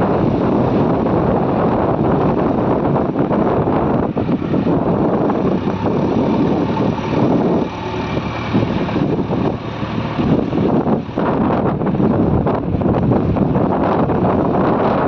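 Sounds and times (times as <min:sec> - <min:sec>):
heavy diesel machinery running: 0:00.0 - 0:15.0
wind buffeting microphone: 0:00.0 - 0:15.0.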